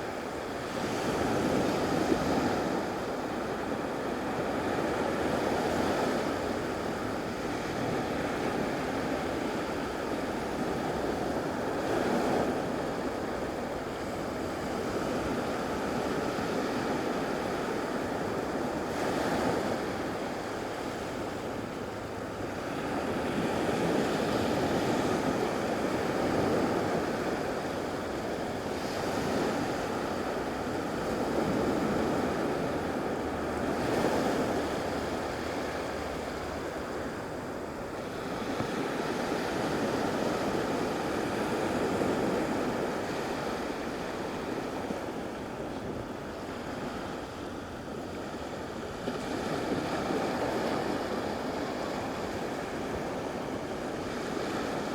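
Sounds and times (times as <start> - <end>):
surf washing onto a beach: 0.0 - 54.9.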